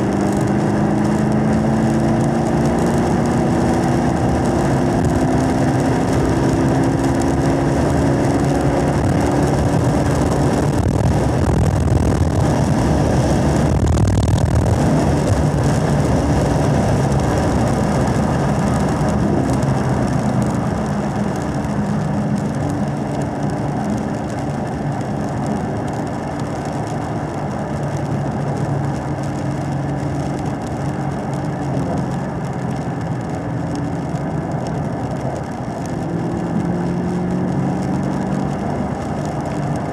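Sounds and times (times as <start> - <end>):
car engine from inside cabin: 0.0 - 39.9.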